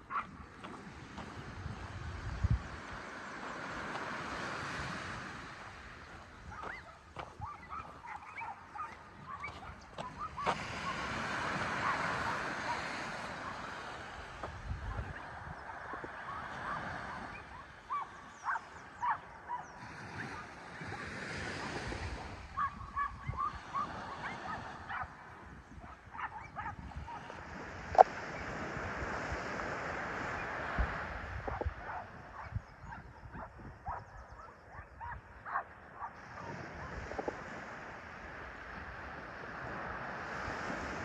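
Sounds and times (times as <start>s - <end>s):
surf: 0.0s - 34.0s
wind: 0.0s - 41.0s.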